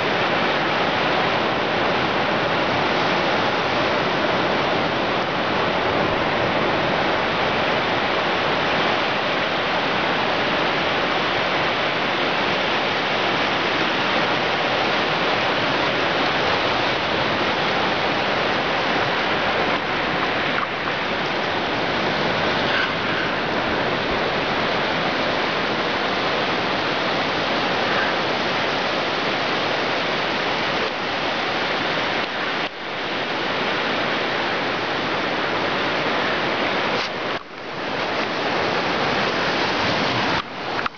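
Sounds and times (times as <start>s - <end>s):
surf washing onto beach: 0.0s - 40.9s.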